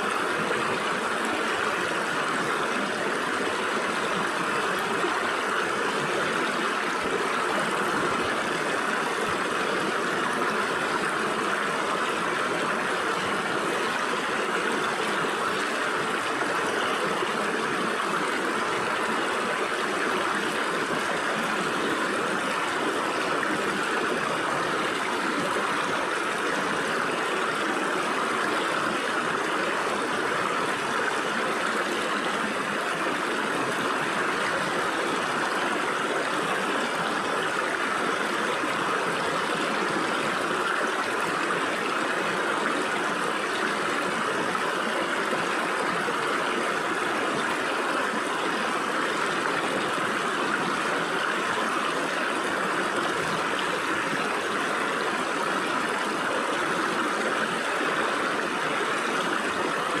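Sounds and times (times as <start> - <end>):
stream water over rocks: 0.0 - 60.0.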